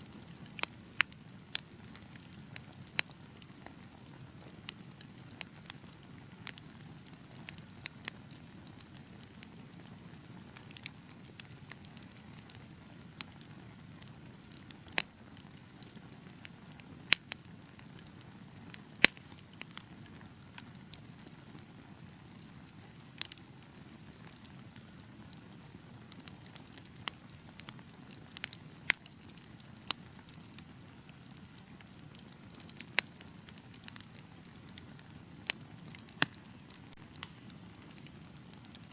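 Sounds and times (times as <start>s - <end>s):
fire crackles and pops: 0.0s - 38.9s.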